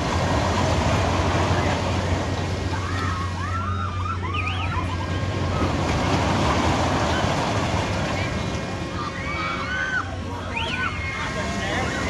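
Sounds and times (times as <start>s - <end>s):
fairground ride low hum: 0.0s - 12.0s.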